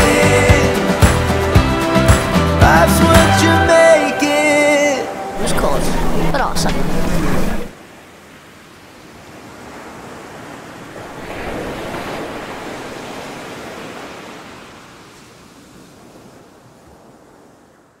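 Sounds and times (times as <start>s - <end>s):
waves washing: 0.0s - 17.9s.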